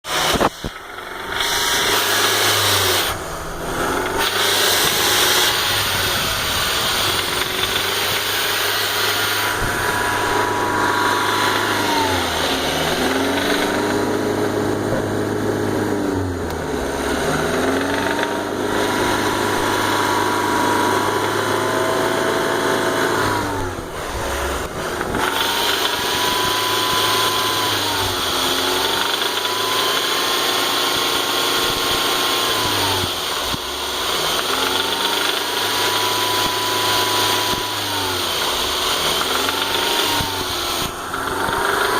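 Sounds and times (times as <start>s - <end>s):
engine knocking: 0.0s - 15.1s, 16.8s - 41.9s
car engine running: 0.0s - 41.9s.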